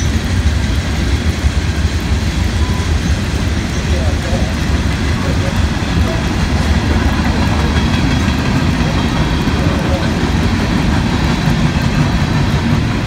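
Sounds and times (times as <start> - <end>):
freight train rumbling on rails: 0.0 - 13.0
rain: 0.0 - 13.0.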